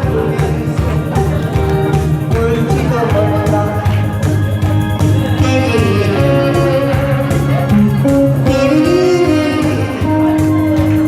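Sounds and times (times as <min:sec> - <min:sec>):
bass accompaniment: 0:00.0 - 0:11.0
guitar melody with bending notes: 0:00.0 - 0:11.0.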